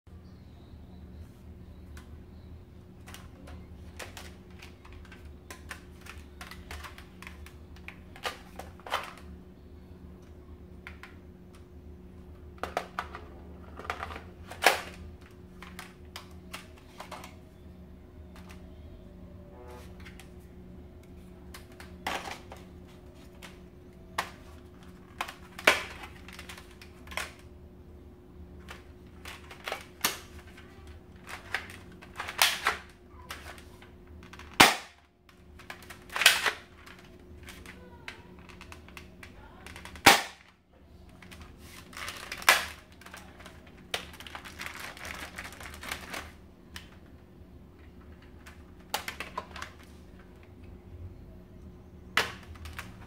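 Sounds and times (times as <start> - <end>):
steady low hum: 0.1 - 53.0.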